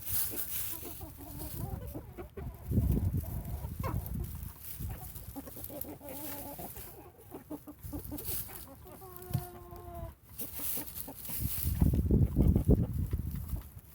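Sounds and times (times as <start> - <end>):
drawn-out chicken call: 0.0 - 13.5
chickens clucking: 0.0 - 13.9.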